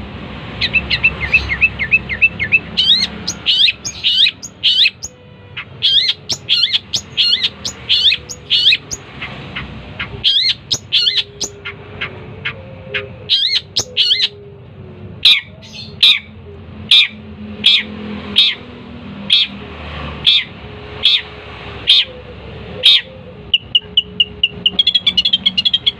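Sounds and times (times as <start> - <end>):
bird chirping song: 0.6 - 25.9.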